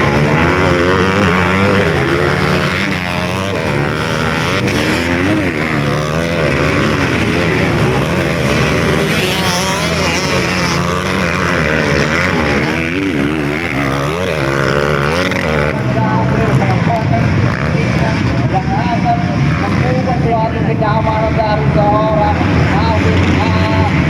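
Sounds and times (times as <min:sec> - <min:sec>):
motocross motorcycle engines: 0:00.0 - 0:24.0.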